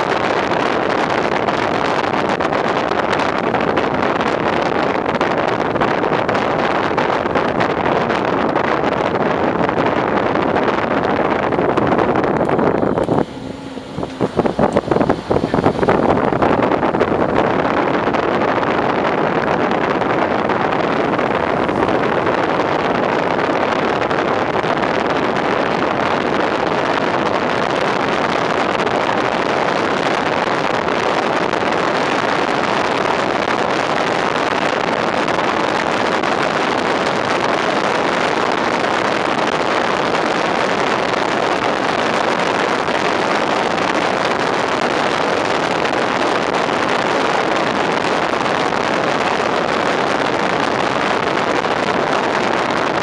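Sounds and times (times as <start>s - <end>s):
wind and road noise: 0.0s - 53.0s.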